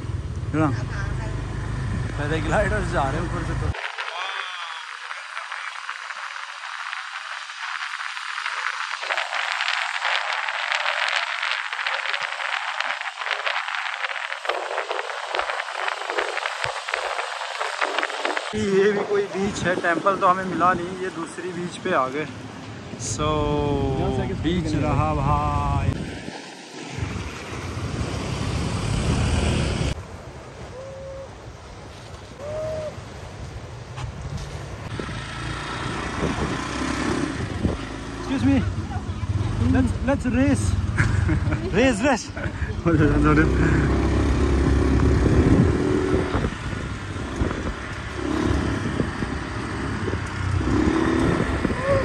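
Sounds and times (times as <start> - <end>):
wind buffeting microphone: 5.0 - 21.3, 22.9 - 40.0, 40.8 - 52.0.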